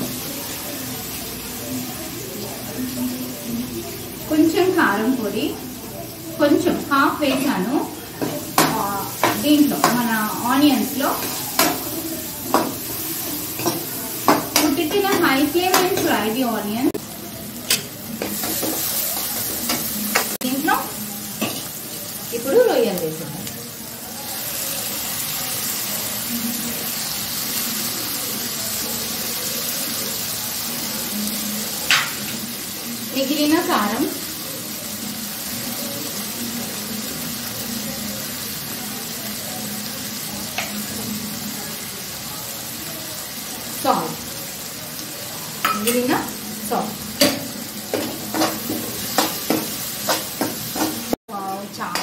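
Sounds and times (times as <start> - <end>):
prawns sizzling in oil: 0.0 - 52.0.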